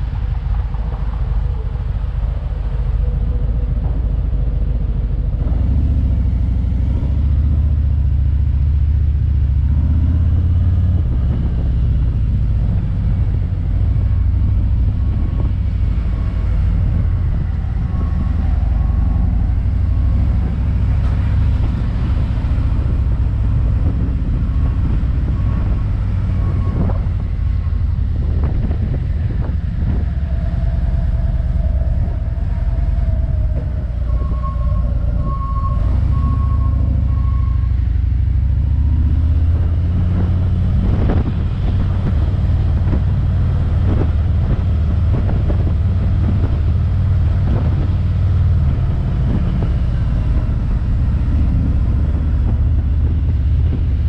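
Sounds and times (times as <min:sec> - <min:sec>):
motorcycle engine rumble: 0:00.0 - 0:54.0.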